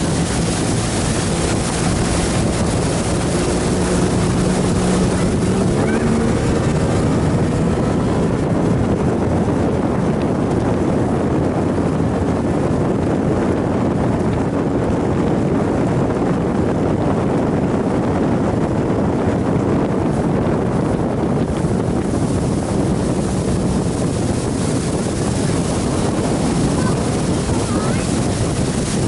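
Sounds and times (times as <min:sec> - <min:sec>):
outboard motor running: 0:00.0 - 0:29.0
water rushing past hull: 0:00.0 - 0:29.0
wind buffeting microphone: 0:00.0 - 0:29.0.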